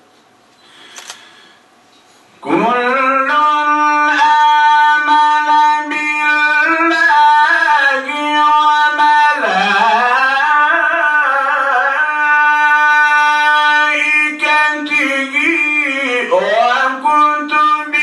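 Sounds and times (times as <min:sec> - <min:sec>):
man reciting melodically into microphone: 0:02.4 - 0:18.0.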